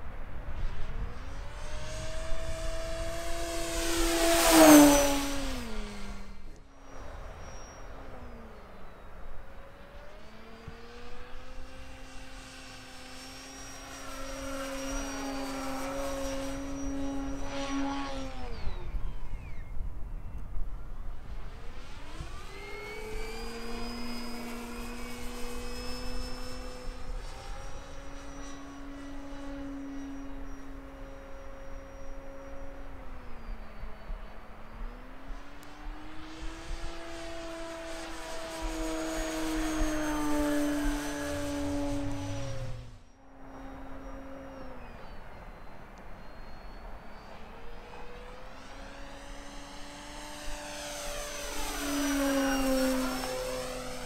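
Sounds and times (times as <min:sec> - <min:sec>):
model airplane motor whining: 0:00.0 - 0:54.0.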